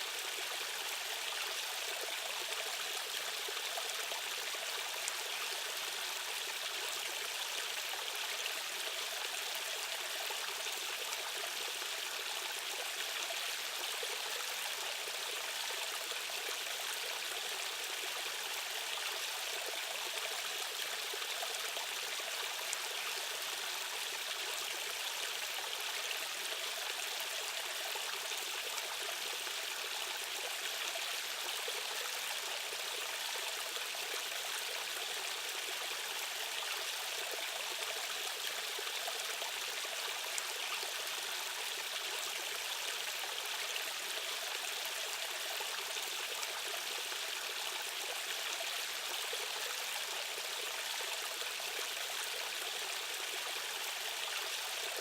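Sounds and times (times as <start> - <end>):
stream water running over rocks: 0.0 - 55.0.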